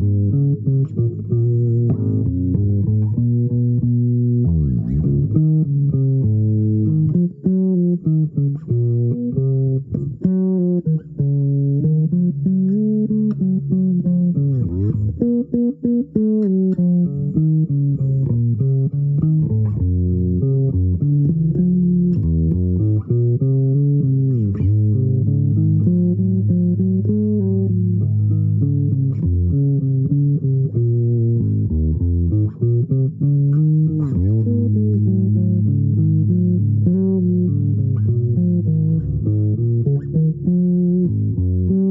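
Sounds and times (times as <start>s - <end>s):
plucked string instrument melody: 0.0s - 41.9s.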